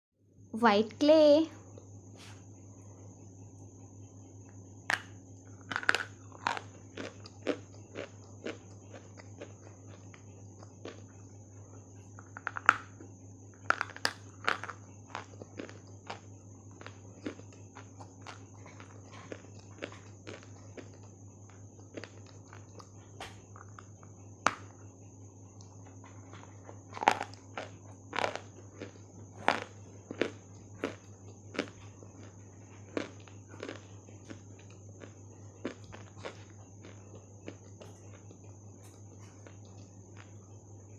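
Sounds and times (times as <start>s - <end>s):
crunching clay chewing: 4.4s - 24.9s, 25.5s - 40.6s.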